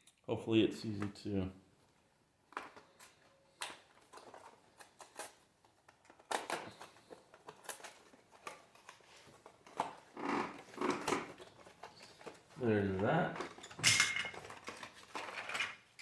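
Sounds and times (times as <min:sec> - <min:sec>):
plastic packaging rustling: 0:02.4 - 0:16.0.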